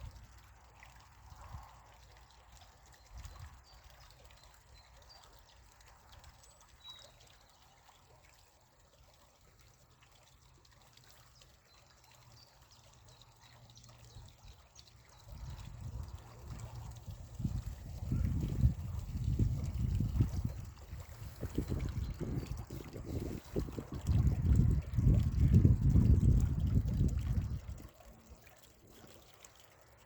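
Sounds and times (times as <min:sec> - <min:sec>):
spring water trickling: 0:00.0 - 0:30.0.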